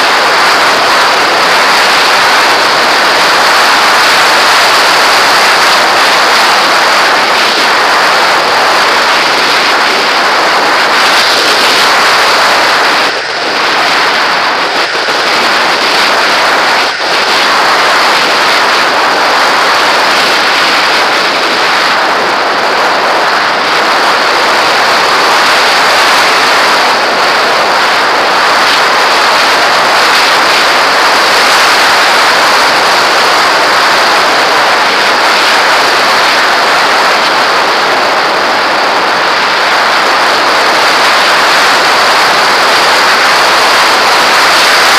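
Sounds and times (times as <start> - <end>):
rush of airflow: 0.0 - 44.9.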